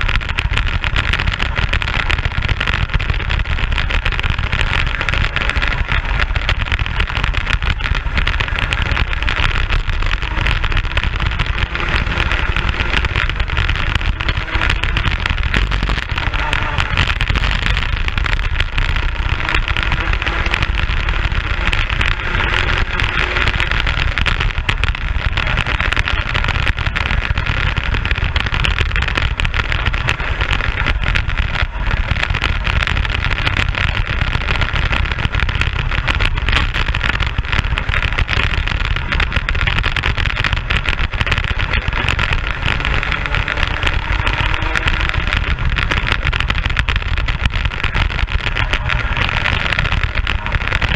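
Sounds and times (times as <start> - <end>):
kart engine at speed: 0.0 - 50.9
wind noise on microphone: 0.0 - 50.9.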